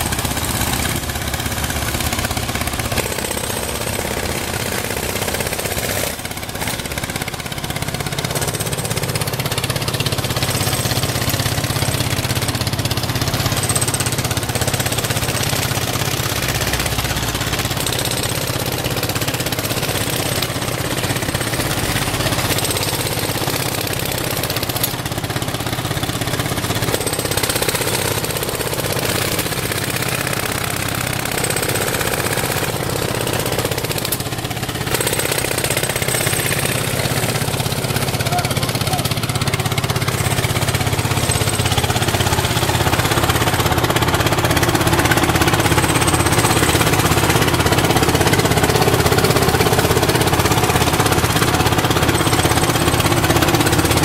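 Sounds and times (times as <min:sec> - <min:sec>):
truck machinery running: 0:00.0 - 0:54.0.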